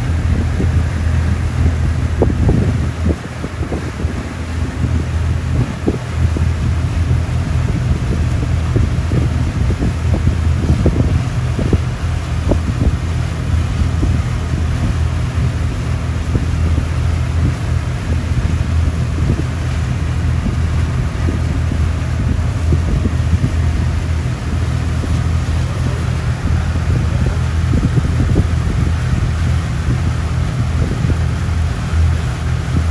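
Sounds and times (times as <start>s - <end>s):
boat engine humming: 0.0s - 32.9s
wind buffeting microphone: 0.0s - 32.9s.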